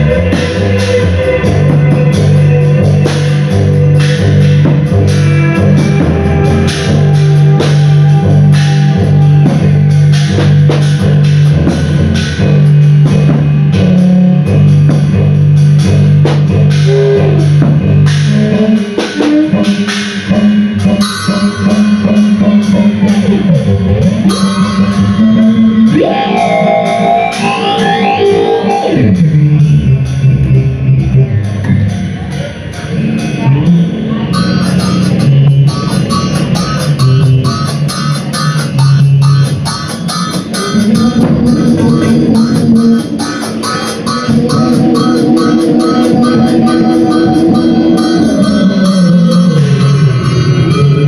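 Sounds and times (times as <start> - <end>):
drums beating: 0.0 - 51.0
low guitar notes: 0.0 - 51.0.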